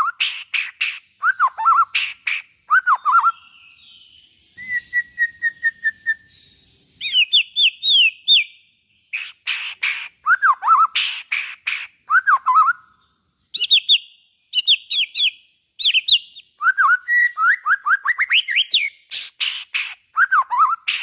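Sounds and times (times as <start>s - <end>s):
bird singing with whistles: 0.0s - 21.0s.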